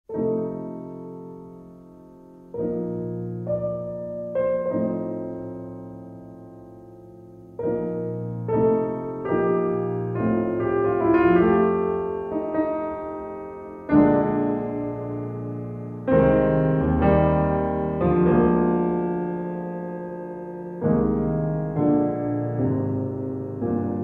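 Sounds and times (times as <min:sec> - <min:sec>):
slow piano chords: 0:00.1 - 0:24.0.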